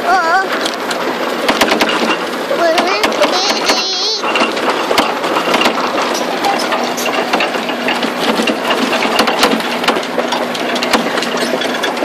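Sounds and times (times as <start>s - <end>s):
small vehicle engine running: 0.0s - 12.0s
rattle of clicks and knocks: 0.5s - 12.0s.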